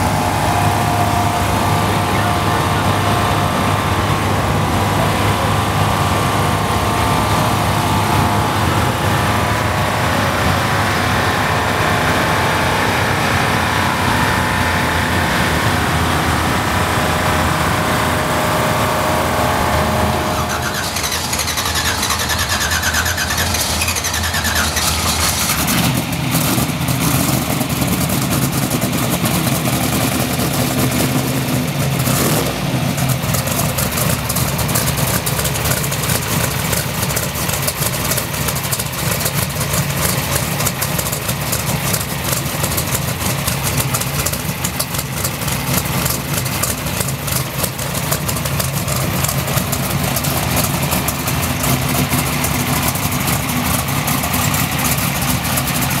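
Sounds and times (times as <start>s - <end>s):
drag car engine idling: 0.0s - 56.0s.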